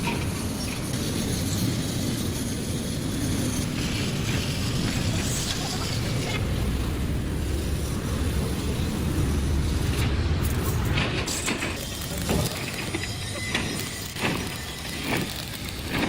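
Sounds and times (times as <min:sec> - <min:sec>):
machinery rumbling: 0:00.0 - 0:16.0.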